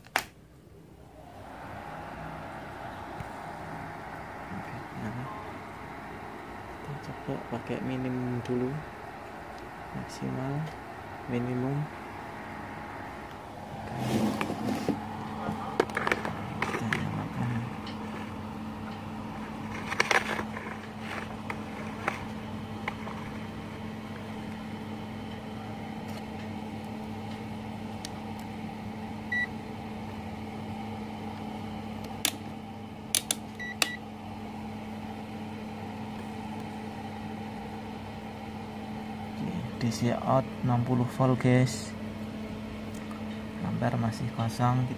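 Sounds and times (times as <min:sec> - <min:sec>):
welder humming: 0:00.8 - 0:44.9.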